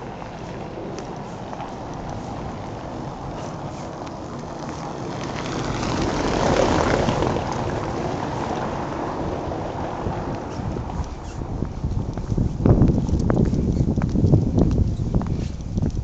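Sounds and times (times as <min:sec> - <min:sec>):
car driving past on cobblestones: 0:00.0 - 0:13.5
traffic hum: 0:00.0 - 0:16.0.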